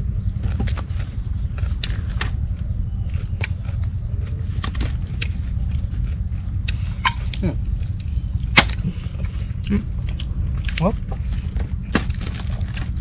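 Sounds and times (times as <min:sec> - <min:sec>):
crunchy chewing: 0:00.0 - 0:13.0
low rumble: 0:00.0 - 0:13.0.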